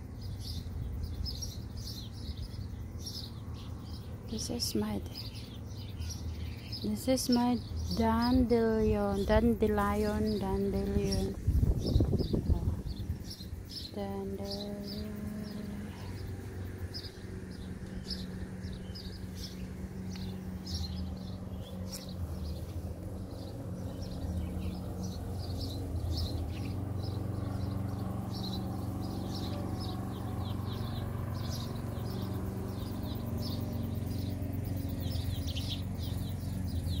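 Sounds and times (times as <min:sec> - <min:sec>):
small birds chirping: 0:00.0 - 0:37.0
steady low hum: 0:00.0 - 0:37.0.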